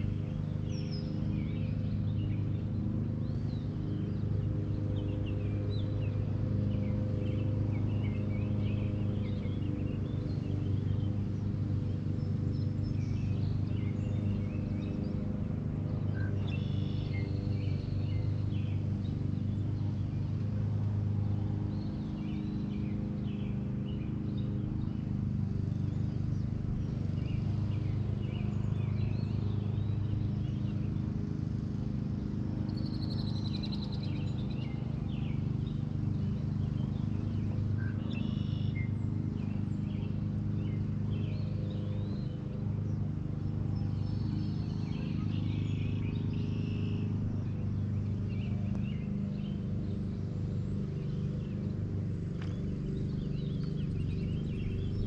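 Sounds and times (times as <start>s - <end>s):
low mechanical hum: 0.0s - 55.0s
small birds chirping: 0.0s - 55.0s.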